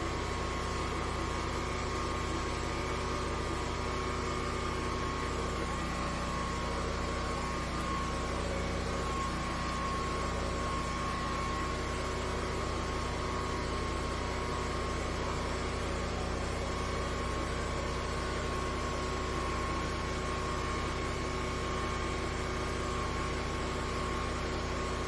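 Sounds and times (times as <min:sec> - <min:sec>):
jetter engine and pump humming: 0:00.0 - 0:25.0.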